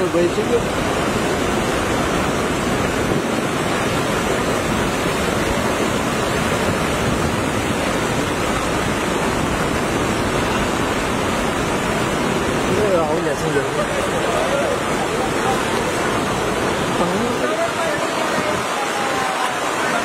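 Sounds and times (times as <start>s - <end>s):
floodwater rushing through street: 0.0s - 20.0s.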